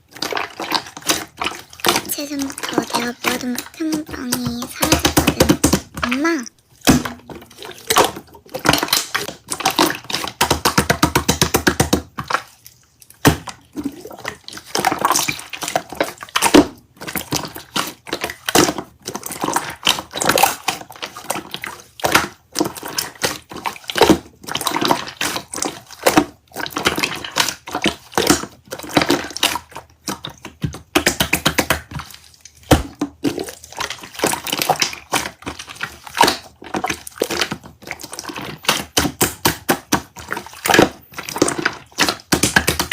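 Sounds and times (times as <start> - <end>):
slime squishing and popping: 0.1 - 42.9.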